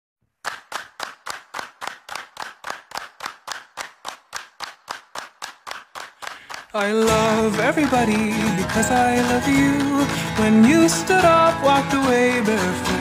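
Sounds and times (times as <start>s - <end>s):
reverberant clap-like beat: 0.3s - 13.0s.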